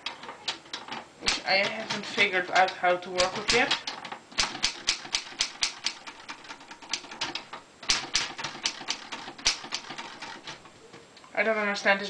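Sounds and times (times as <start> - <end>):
manual typewriter key clacks: 0.0 - 10.7.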